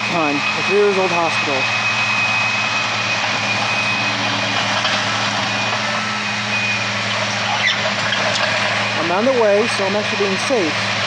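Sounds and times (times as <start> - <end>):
low engine hum: 0.0 - 11.0
thin high whine: 0.0 - 11.0.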